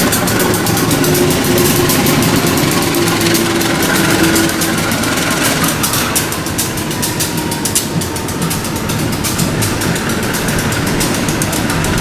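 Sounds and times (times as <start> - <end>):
low train rumble: 0.0 - 12.0
train wheels clattering over rails: 0.0 - 12.0.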